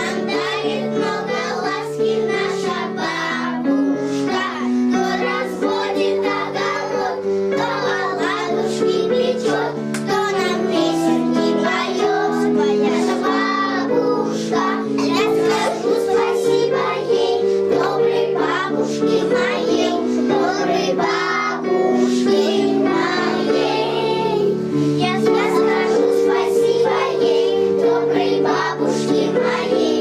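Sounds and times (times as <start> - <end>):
children singing: 0.0 - 30.0
instrumental accompaniment: 0.0 - 30.0.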